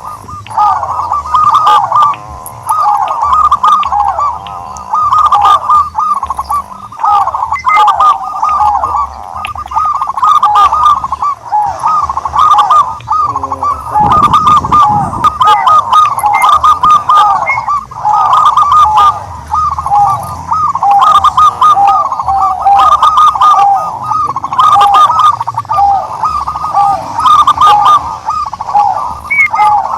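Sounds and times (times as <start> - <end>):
doves cooing: 0.0 - 29.9.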